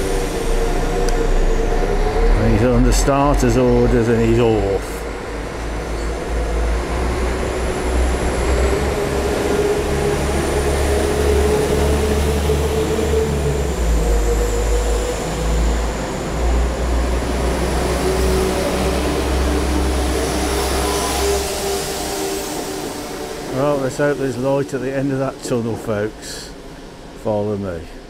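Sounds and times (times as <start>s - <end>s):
diesel train rumble: 0.0s - 28.0s
thin high whine: 0.0s - 28.0s.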